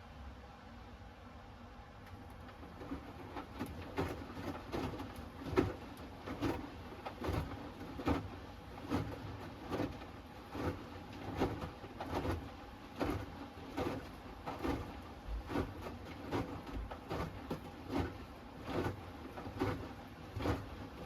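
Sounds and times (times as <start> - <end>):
washing machine motor hum: 0.0 - 21.0
laundry and water sloshing: 2.2 - 21.0.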